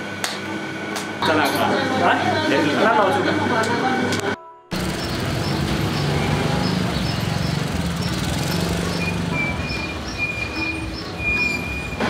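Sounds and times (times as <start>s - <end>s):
truck and scooter engines humming: 0.0s - 12.0s.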